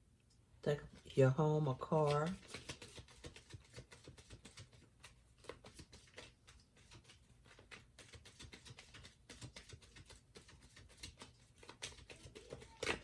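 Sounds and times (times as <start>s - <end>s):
cards tapping and rustling: 1.9s - 13.0s.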